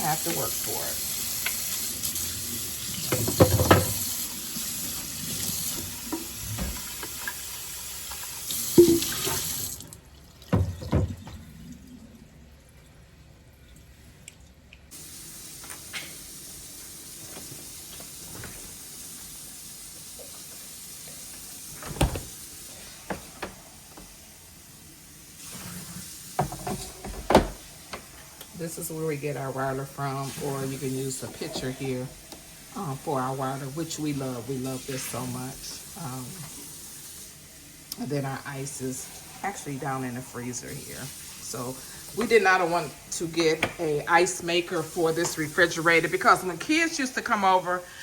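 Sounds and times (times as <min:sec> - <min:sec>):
water running from tap: 0:00.0 - 0:12.9, 0:14.9 - 0:48.0.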